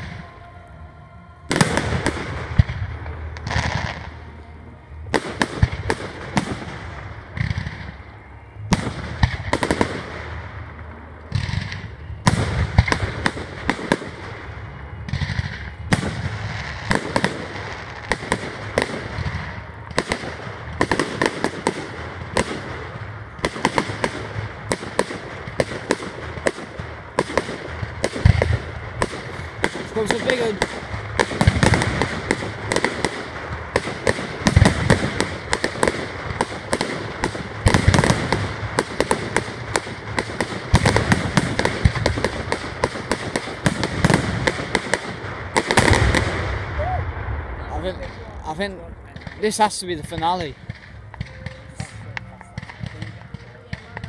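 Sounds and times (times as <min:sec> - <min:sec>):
fireworks crackling: 0:00.0 - 0:00.5, 0:01.5 - 0:54.0.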